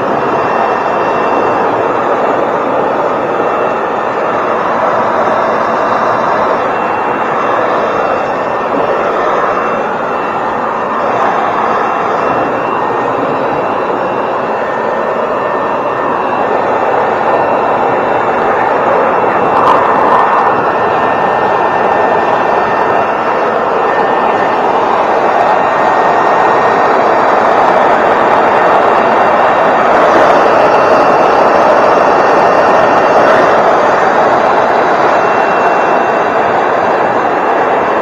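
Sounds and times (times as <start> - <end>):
power tool running: 0.0 - 35.4.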